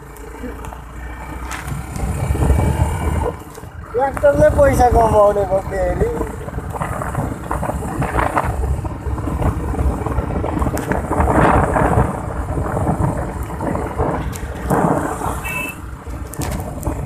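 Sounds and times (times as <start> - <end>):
motorbike road noise: 0.0 - 17.0
wind buffeting microphone: 1.5 - 17.0.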